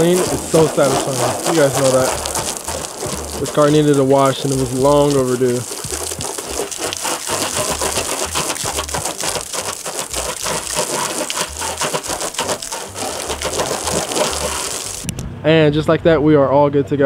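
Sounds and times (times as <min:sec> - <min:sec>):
hose water spraying on car: 0:00.0 - 0:15.1
low rumbles: 0:00.0 - 0:16.3.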